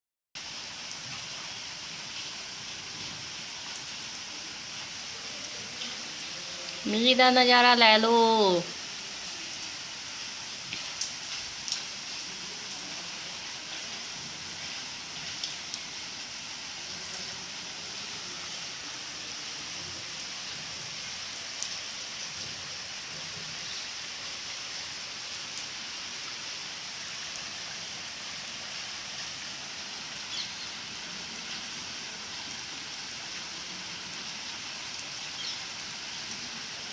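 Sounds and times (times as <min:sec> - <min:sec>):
heavy rain pouring: 0:00.4 - 0:36.9.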